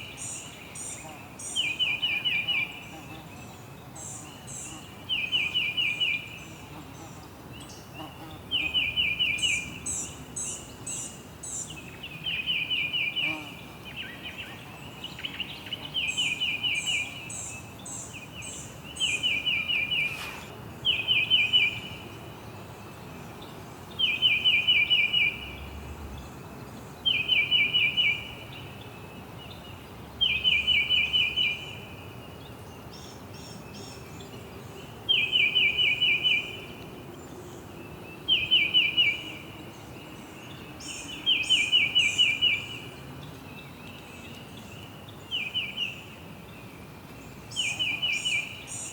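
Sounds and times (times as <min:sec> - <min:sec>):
faint outdoor background: 0:00.0 - 0:48.9.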